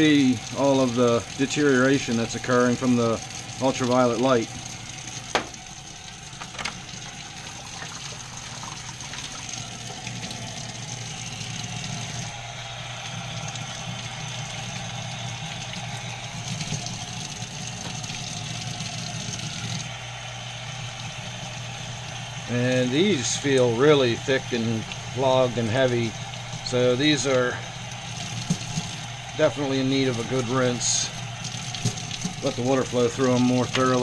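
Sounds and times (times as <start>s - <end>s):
tap water splashing into sink: 0.0s - 12.4s, 13.0s - 19.9s, 24.3s - 34.0s.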